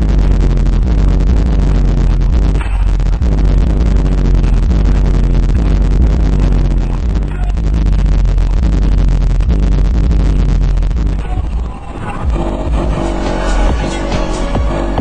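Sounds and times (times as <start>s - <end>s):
hip-hop from car stereo: 0.0s - 15.0s.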